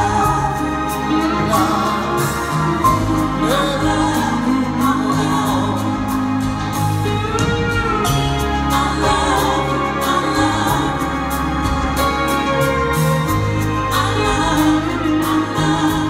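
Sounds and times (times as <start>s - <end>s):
people singing slow song: 0.0s - 7.0s, 8.6s - 16.0s
sustained bass line: 0.0s - 16.0s.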